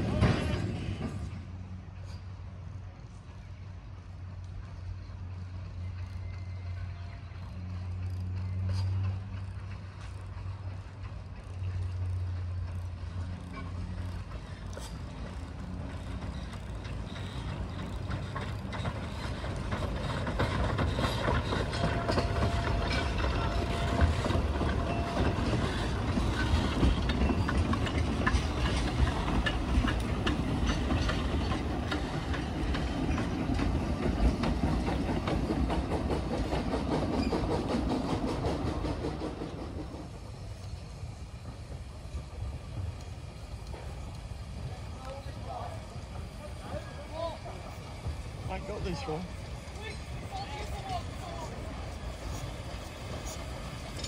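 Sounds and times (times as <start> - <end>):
wheels clicking over rail joints: 0.0 - 2.5, 4.0 - 54.0
steam locomotive running past: 0.0 - 54.0.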